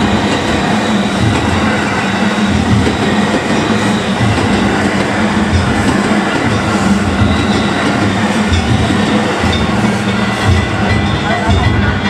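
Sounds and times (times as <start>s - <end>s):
train wheels thudding over rail joints: 0.0s - 12.0s.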